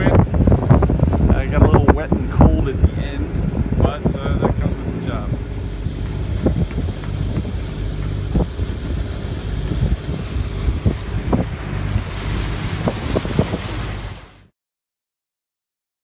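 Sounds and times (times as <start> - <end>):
wind buffeting microphone: 0.0 - 14.4
boat engine running: 0.0 - 14.5
water splashes: 0.0 - 14.5.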